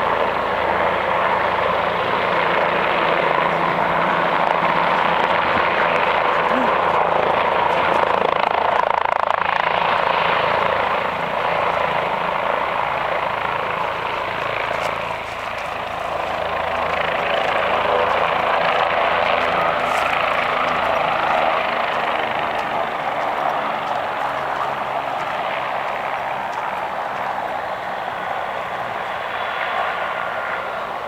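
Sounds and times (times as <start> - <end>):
helicopter rotor and turbine: 0.0 - 31.0.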